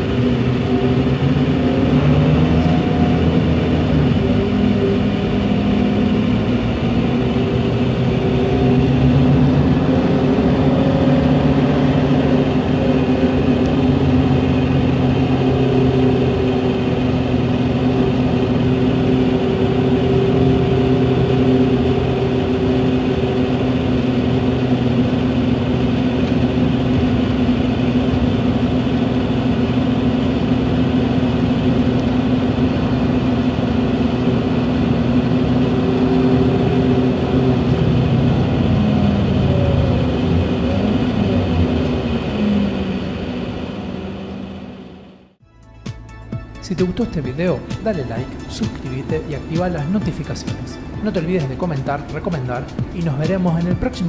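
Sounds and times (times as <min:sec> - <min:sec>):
diesel coach engine running: 0:00.0 - 0:54.0.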